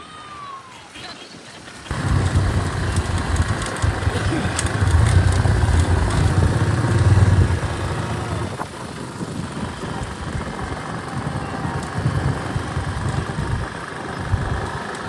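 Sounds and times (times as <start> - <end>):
motorbike engine rumble: 1.9 - 15.0.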